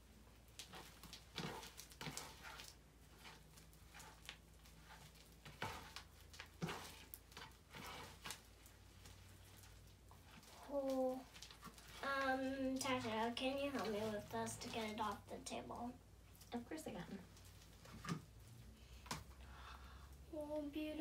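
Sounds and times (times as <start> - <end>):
slime squelching: 0.0 - 20.2.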